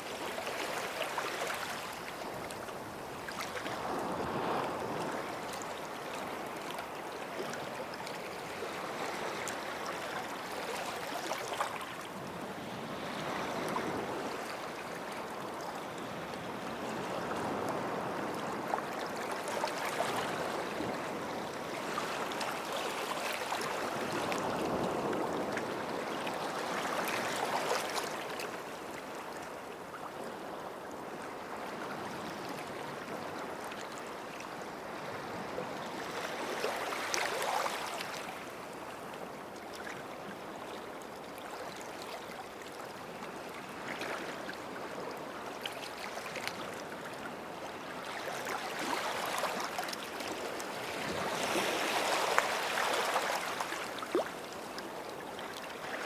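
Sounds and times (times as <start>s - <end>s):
small waves washing on beach: 0.0s - 56.0s.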